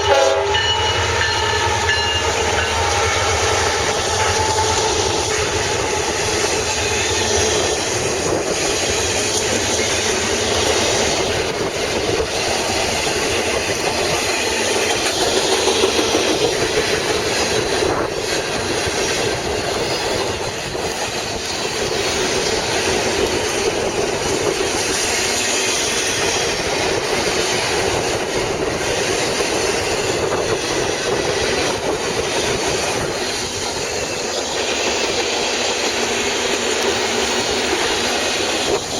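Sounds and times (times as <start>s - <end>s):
train wheels roaring on rail: 0.0s - 38.9s
wheels clacking over rail joints: 0.0s - 38.9s.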